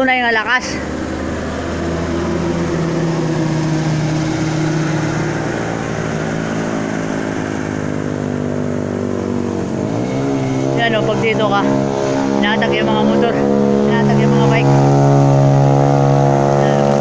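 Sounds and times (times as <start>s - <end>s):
van engine driving past: 0.6s - 17.0s.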